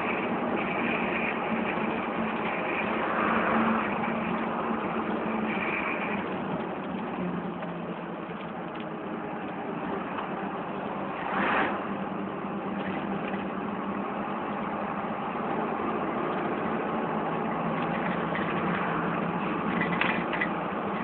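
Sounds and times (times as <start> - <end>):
road and wind noise: 0.0 - 21.0
vehicle engine running: 0.0 - 21.0.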